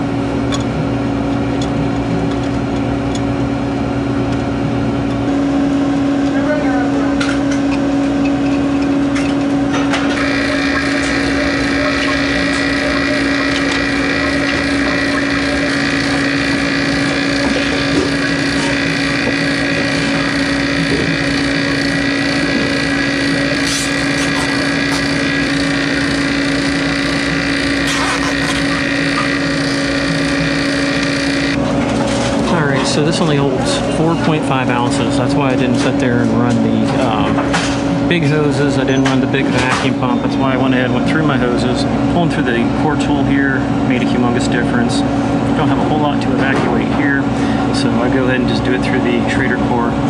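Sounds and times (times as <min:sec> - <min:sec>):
high steady whine: 0:00.0 - 0:50.0
vacuum pump running: 0:00.0 - 0:50.0.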